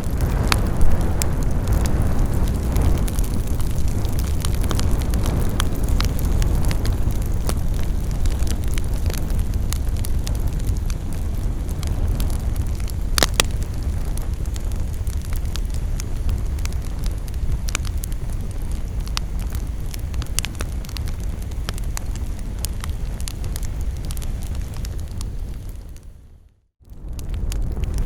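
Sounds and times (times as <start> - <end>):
campfire crackling and popping: 0.0 - 26.2, 26.9 - 28.0.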